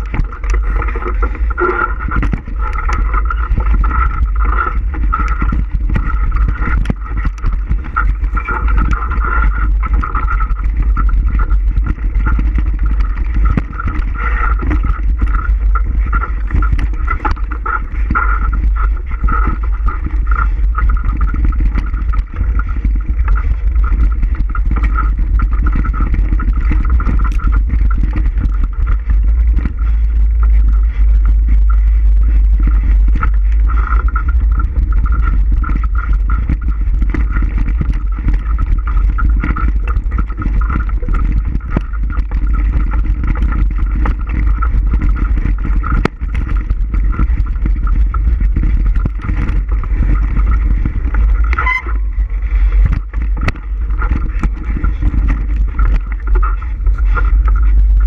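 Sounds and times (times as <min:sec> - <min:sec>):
bicycle rattles and knocks: 0:00.0 - 0:58.0
bicycle whirring: 0:00.0 - 0:58.0
wind rumble on microphone: 0:00.0 - 0:58.0.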